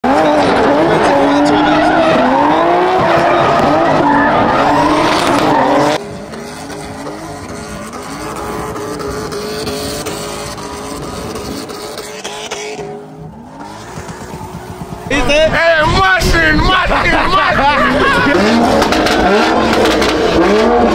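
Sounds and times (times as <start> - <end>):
car engine revving: 0.0 - 20.9
tires squealing: 0.0 - 20.9.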